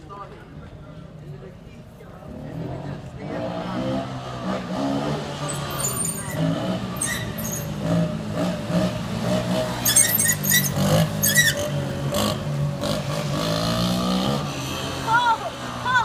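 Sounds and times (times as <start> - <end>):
atv engine revving: 2.3 - 16.0.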